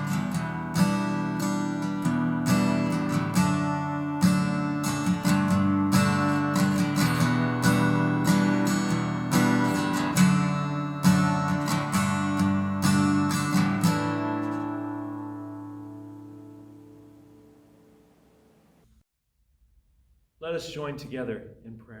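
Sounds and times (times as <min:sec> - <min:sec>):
acoustic guitar strumming chords: 0:00.0 - 0:18.6.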